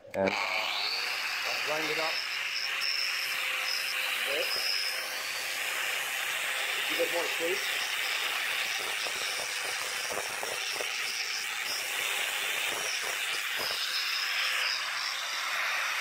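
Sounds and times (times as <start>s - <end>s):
angle grinder sanding plywood: 0.2s - 16.0s.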